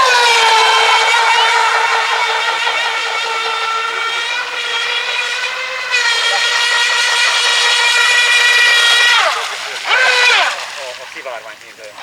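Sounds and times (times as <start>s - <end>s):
electric motor high-pitched whine: 0.0s - 11.2s.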